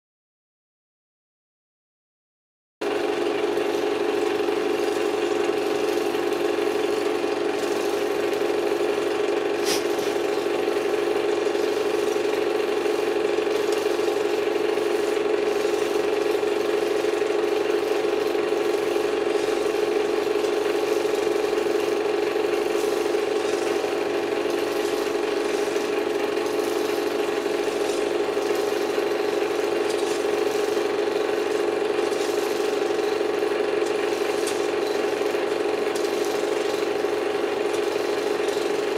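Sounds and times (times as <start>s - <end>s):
projector hum: 2.8s - 38.9s.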